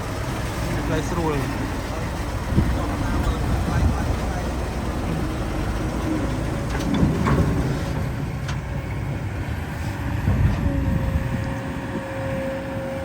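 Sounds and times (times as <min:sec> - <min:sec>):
diesel machinery rumbling: 0:00.0 - 0:13.0
steady whine: 0:01.9 - 0:13.0.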